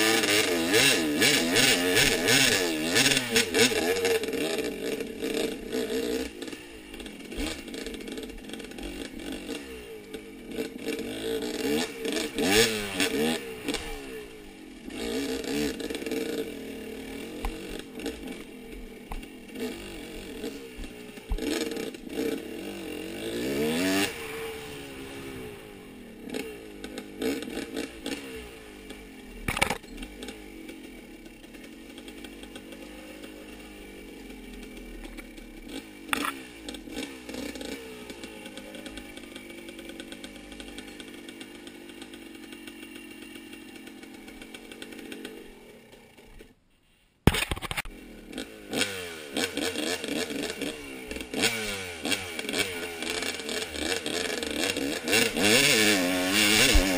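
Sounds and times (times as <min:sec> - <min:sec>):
off-road vehicle engine revving: 0:00.0 - 0:46.4, 0:47.5 - 0:56.9.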